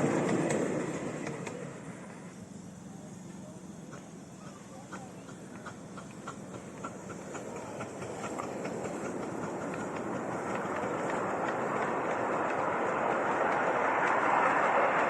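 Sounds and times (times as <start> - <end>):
steam train approaching: 0.0 - 15.0
wheels ticking over rail joints: 0.0 - 15.0.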